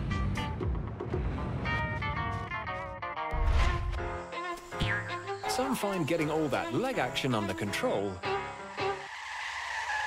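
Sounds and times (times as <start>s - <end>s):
background music held notes: 0.0s - 9.1s.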